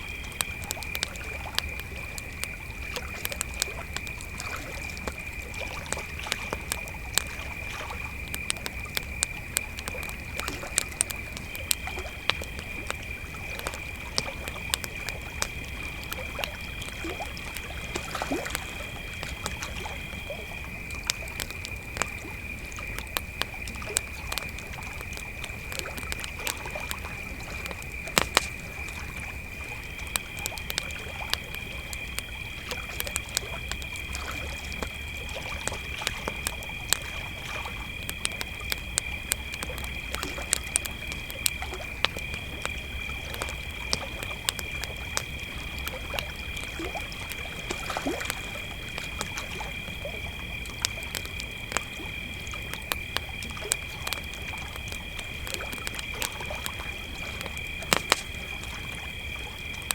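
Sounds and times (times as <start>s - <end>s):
campfire crackling and popping: 0.0s - 59.9s
crickets chirping: 0.0s - 59.9s
higher cricket chirping: 0.0s - 59.9s.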